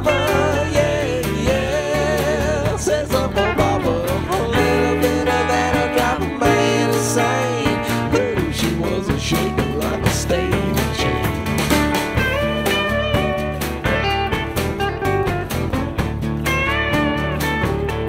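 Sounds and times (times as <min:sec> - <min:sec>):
country song with guitar: 0:00.0 - 0:18.0.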